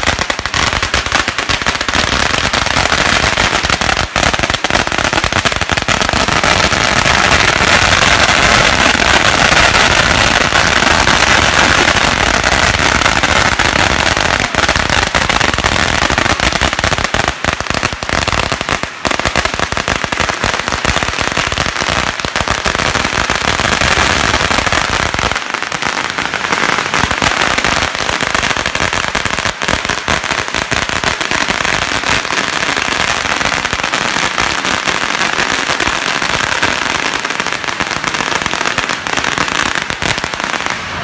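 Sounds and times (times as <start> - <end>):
firecrackers popping and crackling: 0.0 - 41.0.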